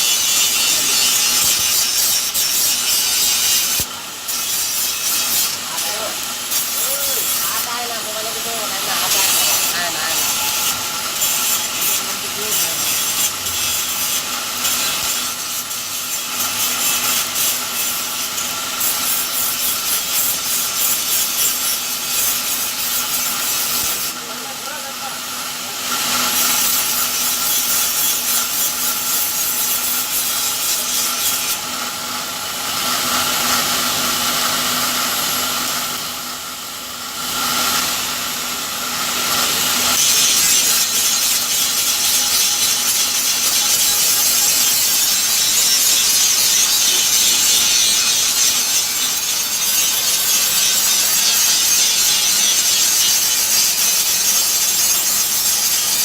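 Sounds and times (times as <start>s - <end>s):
tool rasping material: 0.0s - 24.9s, 25.9s - 31.7s, 39.2s - 56.0s.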